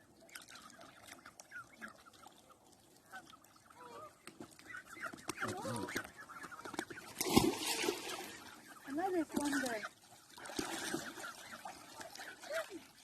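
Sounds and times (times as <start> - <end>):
geese and ducks calling: 0.2 - 12.9.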